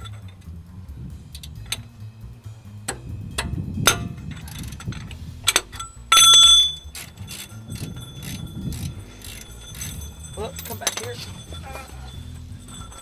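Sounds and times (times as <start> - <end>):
metallic clink: 0.0 - 0.6, 2.9 - 13.0
ratchet clicking: 1.3 - 2.0, 2.9 - 13.0.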